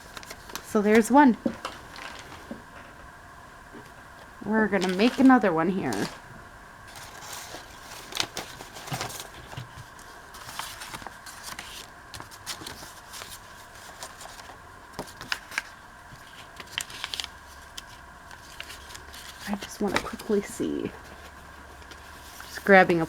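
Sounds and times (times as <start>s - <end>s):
paper rustling: 0.0s - 3.0s, 4.7s - 6.3s, 6.9s - 23.0s.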